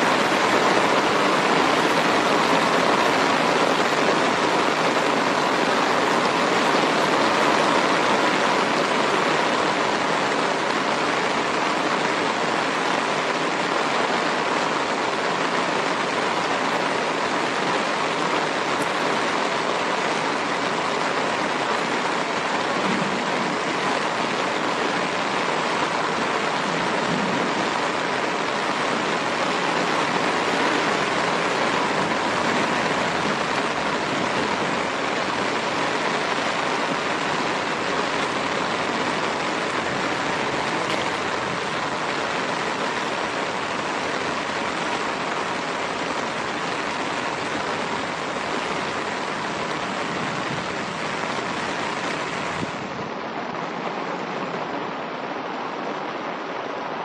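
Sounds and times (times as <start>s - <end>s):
rain falling on grass: 0.0s - 57.0s.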